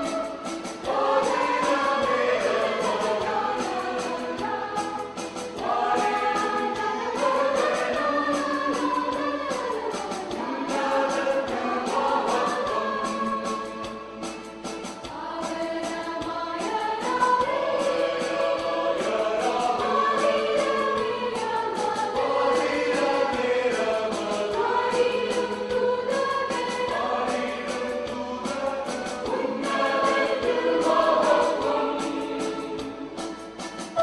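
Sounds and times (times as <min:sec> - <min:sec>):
choir singing: 0:00.0 - 0:34.0
steady beat: 0:00.0 - 0:34.0.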